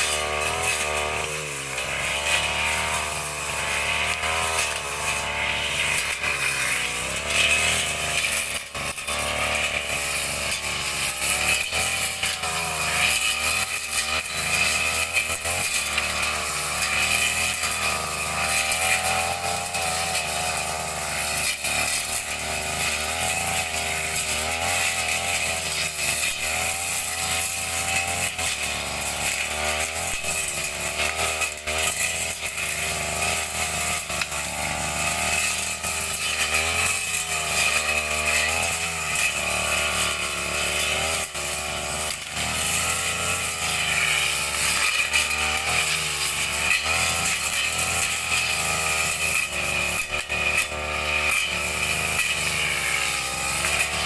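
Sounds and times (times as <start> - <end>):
brush cutter engine revving: 0.0 - 54.0.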